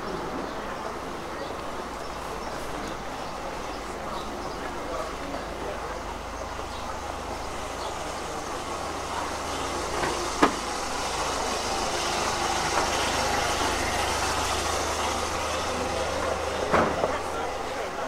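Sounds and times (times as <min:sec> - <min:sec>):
rumble of traffic: 0:00.0 - 0:18.0.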